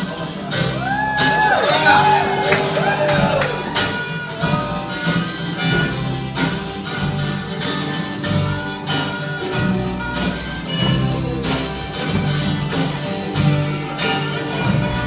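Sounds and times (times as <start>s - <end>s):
live band with acoustic guitars: 0.0s - 15.0s.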